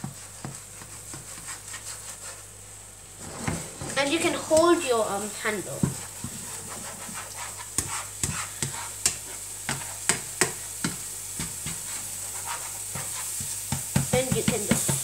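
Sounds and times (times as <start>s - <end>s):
spatula scraping frying pan: 0.0s - 2.5s, 3.1s - 15.0s
eggs sizzling: 0.0s - 15.0s.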